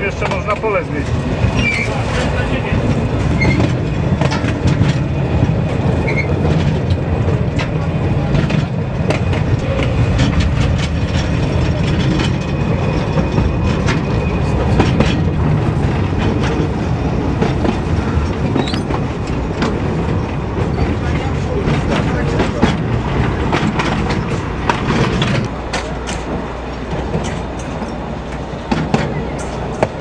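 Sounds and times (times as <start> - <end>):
train carriage rumble: 0.0 - 30.0
wheels clacking on rails: 0.0 - 30.0.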